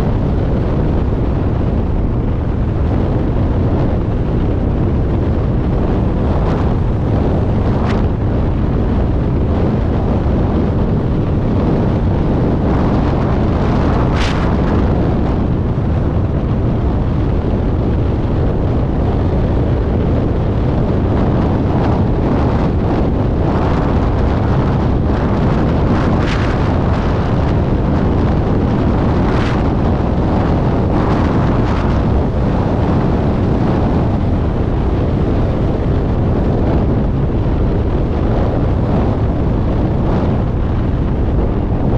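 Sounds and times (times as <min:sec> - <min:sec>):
car rumbling at speed: 0:00.0 - 0:41.9
wind buffeting microphone: 0:00.0 - 0:41.9.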